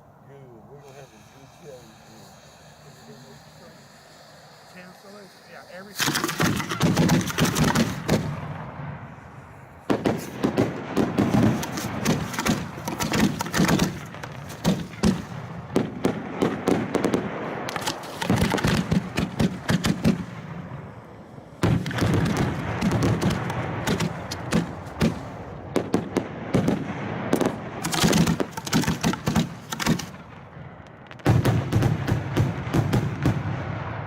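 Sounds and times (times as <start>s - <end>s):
fireworks popping and banging: 0.8s - 34.0s.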